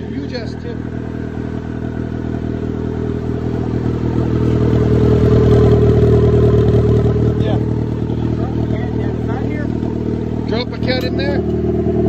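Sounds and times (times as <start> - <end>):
turbocharged car engine running: 0.0 - 12.0.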